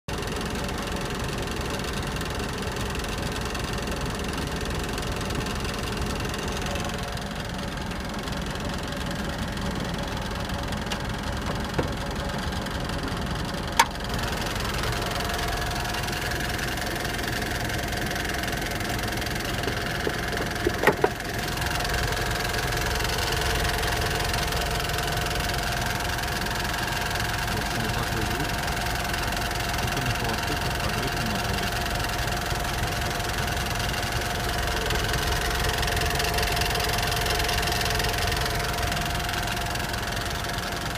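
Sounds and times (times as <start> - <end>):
diesel engine running: 0.1 - 40.9.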